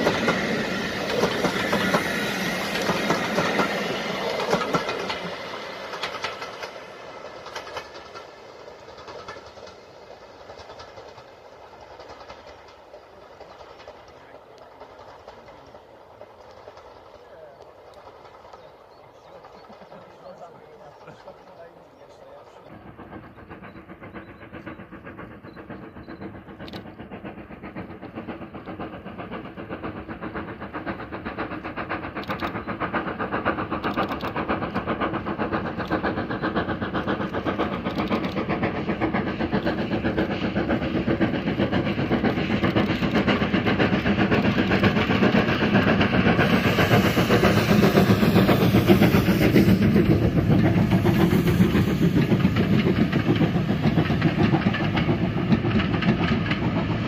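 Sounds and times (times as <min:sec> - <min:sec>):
steam locomotive chuffing: 0:00.0 - 0:57.0
train coaches rolling past: 0:00.0 - 0:57.0.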